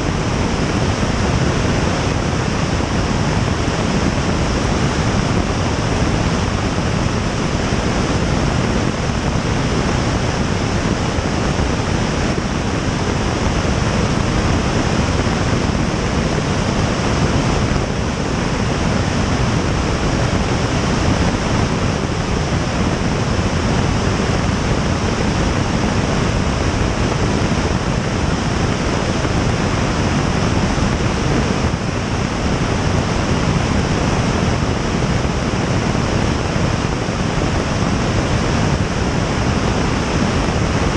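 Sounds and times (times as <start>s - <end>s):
wind noise over camera: 0.0s - 40.9s.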